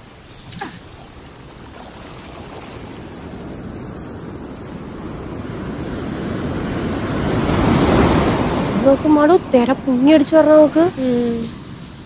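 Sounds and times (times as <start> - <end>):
sea surf breaking: 0.0 - 12.0.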